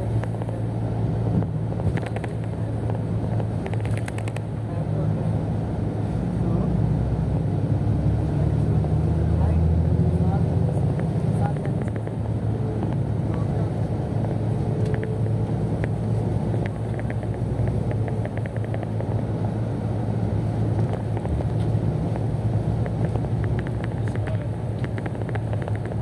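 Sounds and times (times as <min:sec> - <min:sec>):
road vehicle driving: 0:00.0 - 0:26.0.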